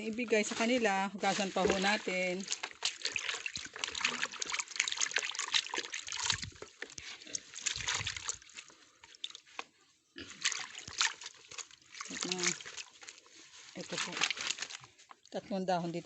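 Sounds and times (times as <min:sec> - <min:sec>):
water running and splattering: 0:00.0 - 0:09.6, 0:10.2 - 0:15.4.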